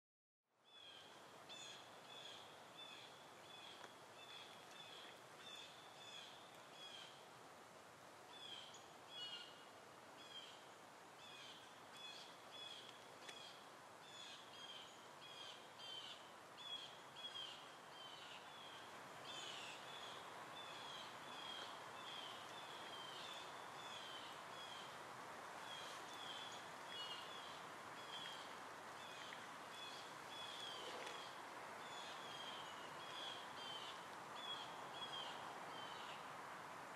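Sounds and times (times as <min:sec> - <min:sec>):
soft steady hiss: 0:00.5 - 0:36.9
faint bird chirping: 0:00.6 - 0:07.2, 0:08.3 - 0:25.0, 0:25.6 - 0:36.3.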